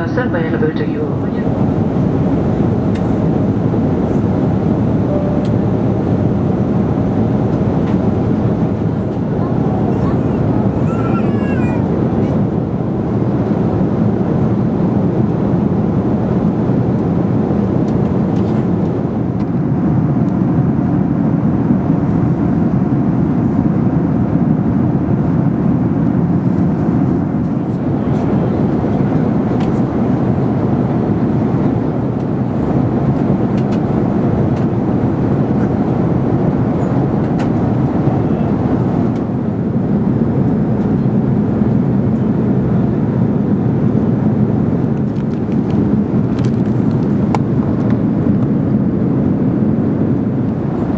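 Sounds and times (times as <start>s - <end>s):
airplane cabin airflow and engines: 0.0s - 50.9s.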